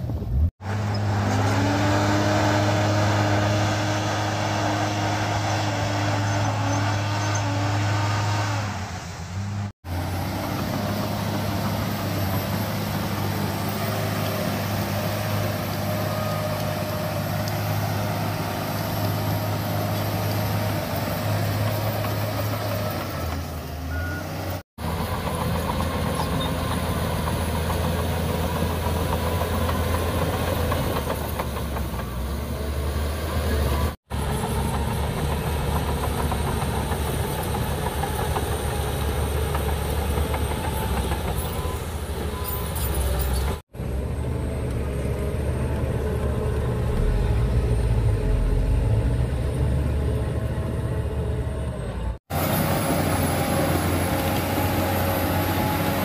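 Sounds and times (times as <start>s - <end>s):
bulldozer diesel engine running: 0.1s - 56.0s.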